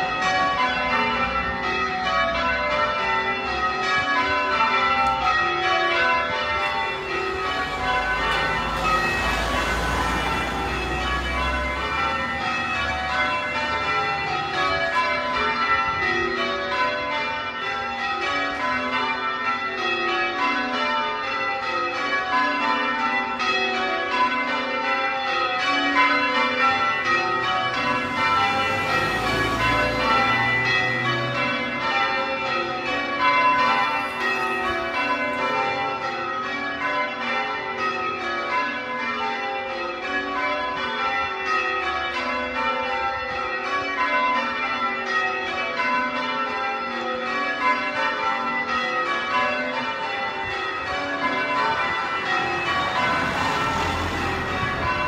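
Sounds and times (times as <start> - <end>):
church bells change ringing: 0.0 - 55.0.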